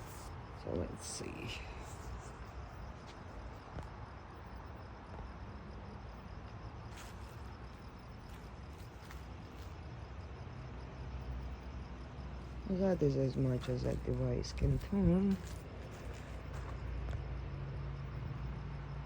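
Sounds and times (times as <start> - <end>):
high trill of insects: 0.0 - 19.0.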